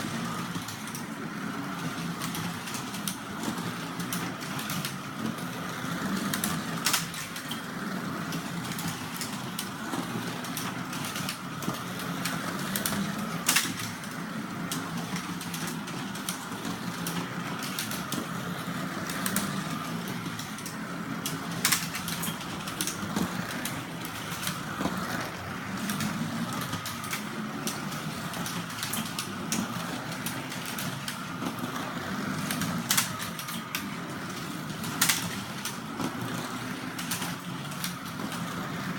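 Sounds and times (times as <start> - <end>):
slot car motors whirring: 0.0 - 38.9.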